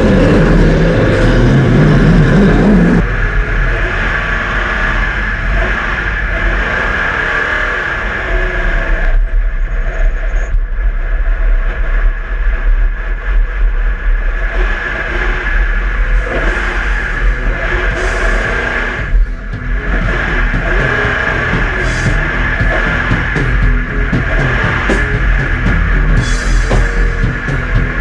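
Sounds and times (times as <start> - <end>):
race car engine running hard: 0.0 - 28.0.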